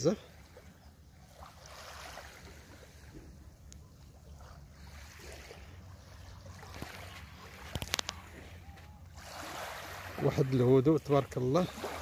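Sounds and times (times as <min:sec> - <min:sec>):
sea lapping at shore: 0:00.0 - 0:12.0.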